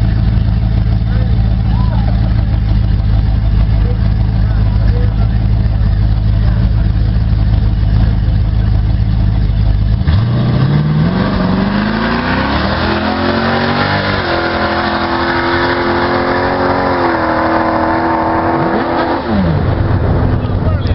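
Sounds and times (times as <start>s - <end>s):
pickup engine accelerating: 0.0s - 20.9s.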